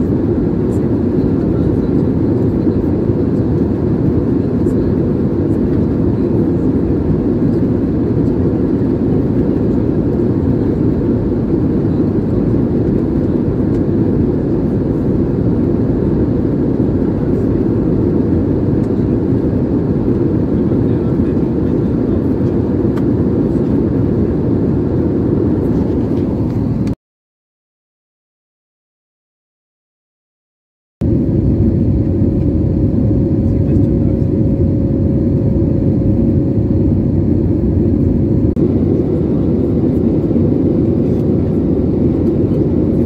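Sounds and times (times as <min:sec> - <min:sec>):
airliner cabin noise: 0:00.0 - 0:27.0, 0:31.0 - 0:43.0.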